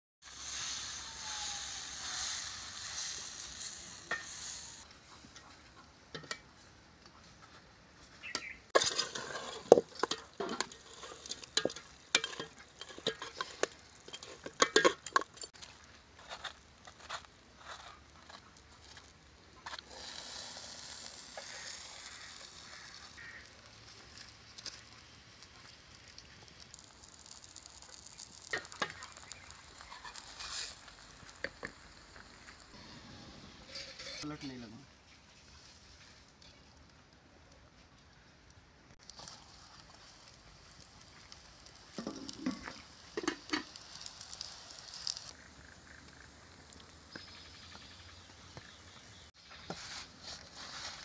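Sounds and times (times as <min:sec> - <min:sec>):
dough sizzling on hot iron griddle: 0:00.2 - 0:04.9, 0:08.7 - 0:34.3, 0:38.9 - 0:51.0.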